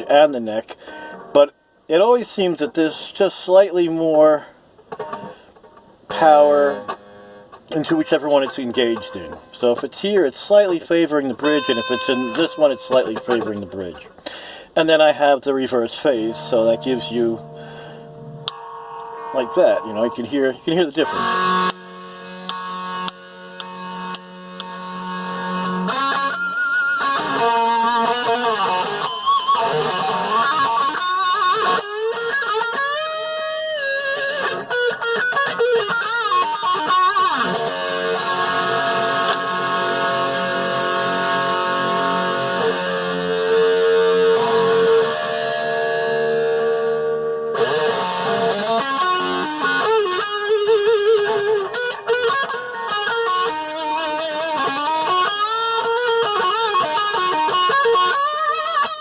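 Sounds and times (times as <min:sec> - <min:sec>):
electric guitar lead lines: 0:00.0 - 0:59.0.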